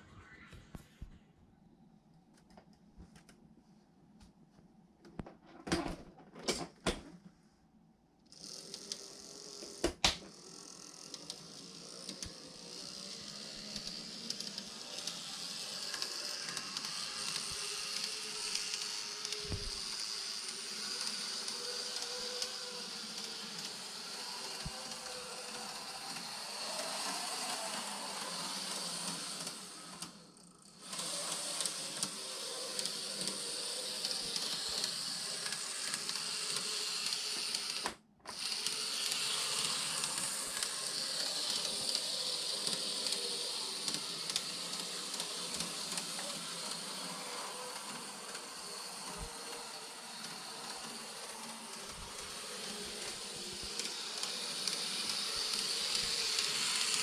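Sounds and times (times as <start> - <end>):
model train motor buzz: 8.3 - 57.0.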